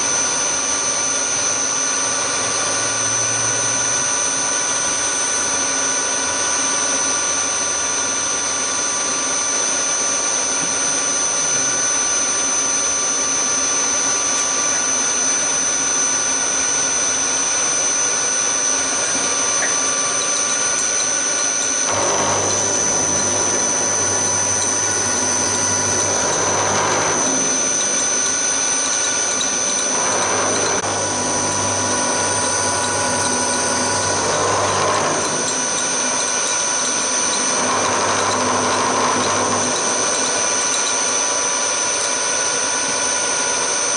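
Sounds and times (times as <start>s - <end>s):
milling machine whine: 0.0s - 43.9s.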